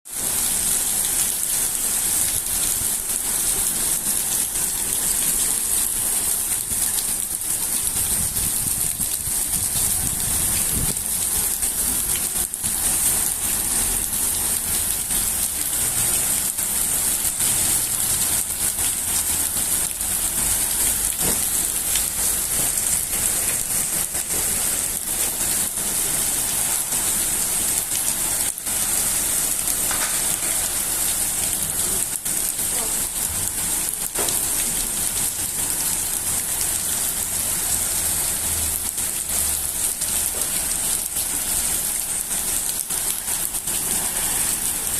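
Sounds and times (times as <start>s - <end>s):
rain falling: 0.1s - 44.9s.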